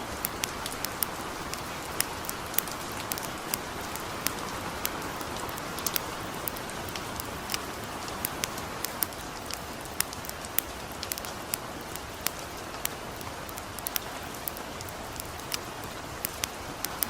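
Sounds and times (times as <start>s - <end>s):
campfire crackling: 0.0s - 17.0s
gentle rain falling: 0.0s - 17.0s.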